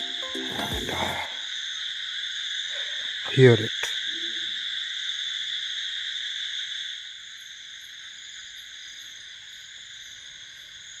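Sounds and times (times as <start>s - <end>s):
crickets droning at night: 0.0s - 11.0s.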